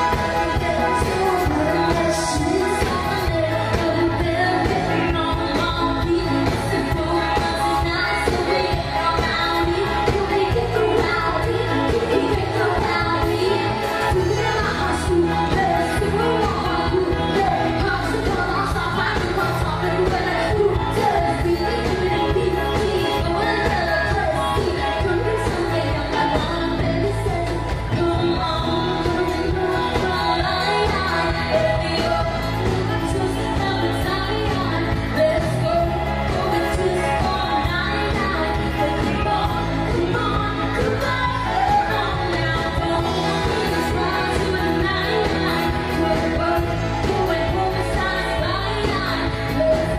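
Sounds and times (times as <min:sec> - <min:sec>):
live pop band playing: 0:00.0 - 0:49.9
woman singing into a microphone: 0:00.0 - 0:49.9.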